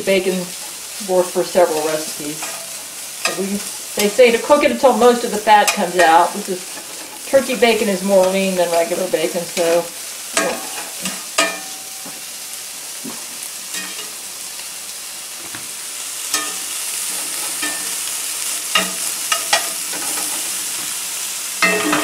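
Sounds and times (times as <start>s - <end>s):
bacon sizzling in a skillet: 0.0s - 22.0s
spatula scraping a pan: 0.5s - 12.4s, 16.2s - 22.0s.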